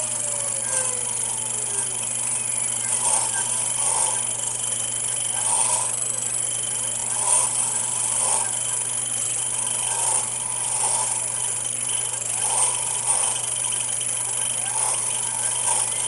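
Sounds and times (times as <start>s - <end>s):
lathe motor hum and whine: 0.0s - 16.0s
lathe tool cutting passes: 0.0s - 16.0s.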